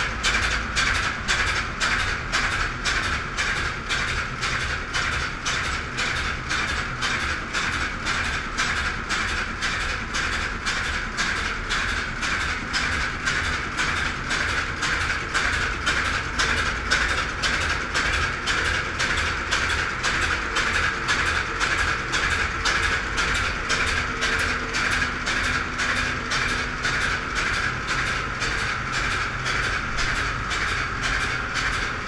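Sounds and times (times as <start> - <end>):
diesel engine knocking: 0.0 - 32.0.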